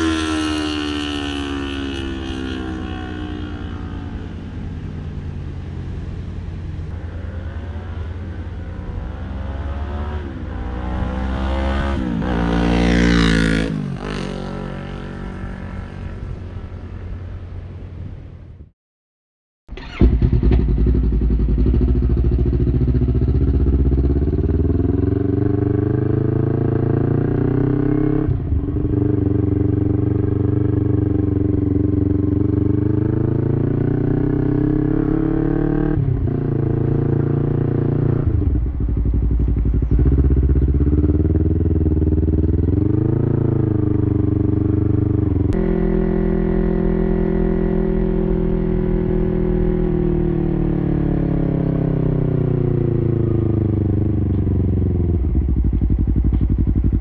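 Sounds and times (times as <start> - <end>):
motorcycle engine revving: 0.0 - 6.2, 6.8 - 16.8, 19.7 - 57.0.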